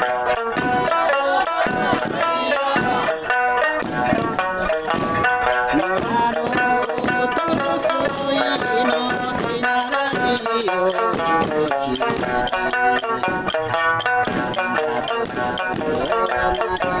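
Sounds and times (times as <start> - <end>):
person singing: 0.0 - 13.6, 14.4 - 17.0
plucked strings: 0.0 - 17.0
steady drum beats: 0.0 - 17.0.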